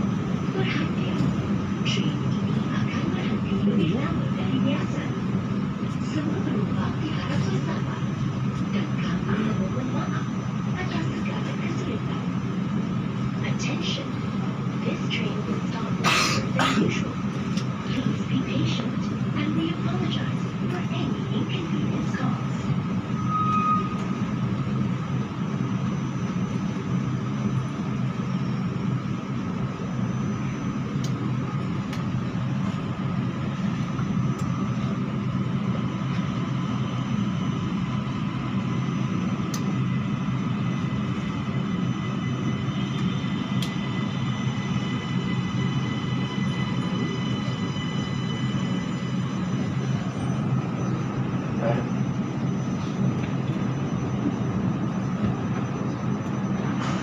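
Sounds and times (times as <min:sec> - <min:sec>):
train car hum: 0:00.0 - 0:57.0.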